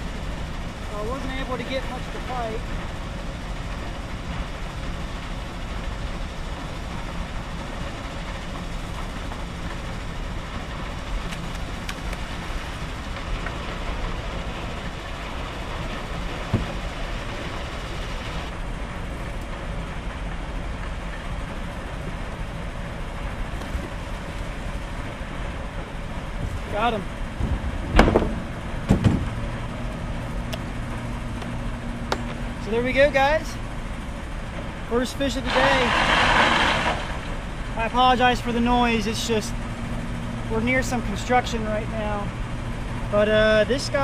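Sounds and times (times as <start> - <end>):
construction machinery drone: 0.0 - 44.0.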